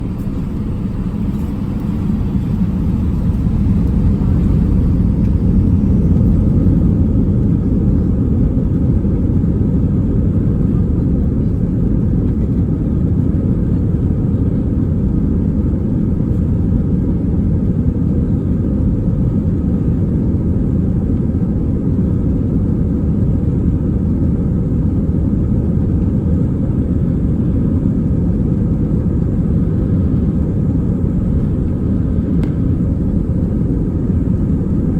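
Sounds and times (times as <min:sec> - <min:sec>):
jet engine rumble: 0:00.0 - 0:34.9.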